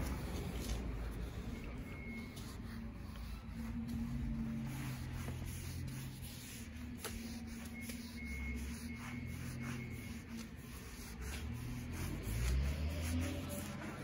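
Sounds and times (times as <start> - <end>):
cloth pad rubbing wood: 0.0 - 14.0
low steady hum: 0.0 - 14.0.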